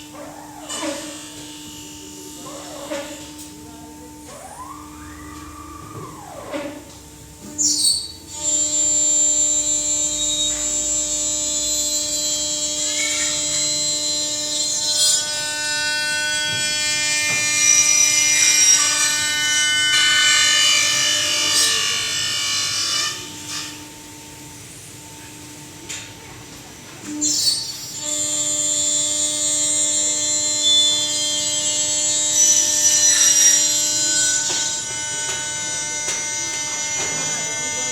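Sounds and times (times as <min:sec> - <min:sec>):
machine motor whine: 0:00.0 - 0:37.9.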